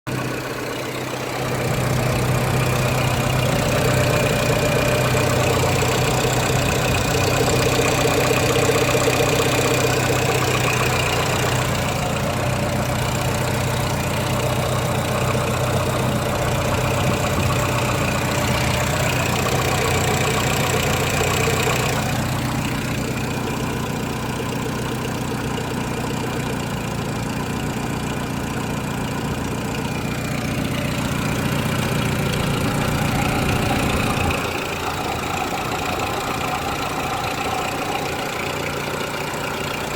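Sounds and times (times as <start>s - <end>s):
car engine running with a knock: 0.1s - 39.9s.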